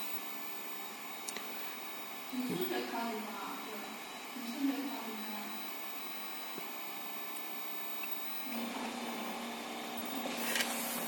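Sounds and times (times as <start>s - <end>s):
printer fans whirring: 0.0s - 11.0s
steady low hum: 0.0s - 11.0s.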